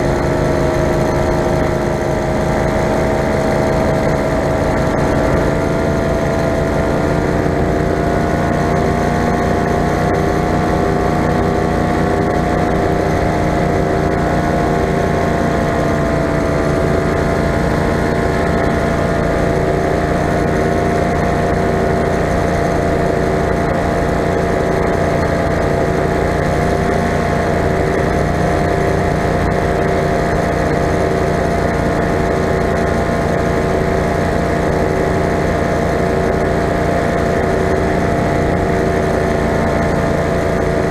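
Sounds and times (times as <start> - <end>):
paramotor engine droning: 0.0 - 40.9.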